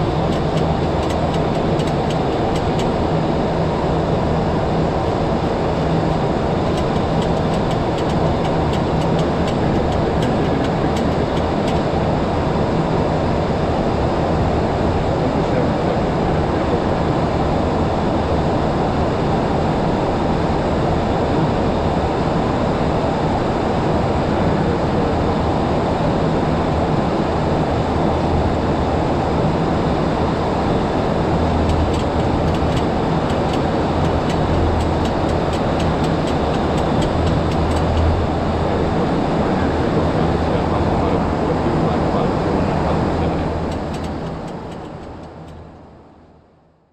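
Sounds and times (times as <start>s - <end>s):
rush of airflow in cockpit: 0.0s - 45.9s
low engine hum: 0.0s - 46.6s.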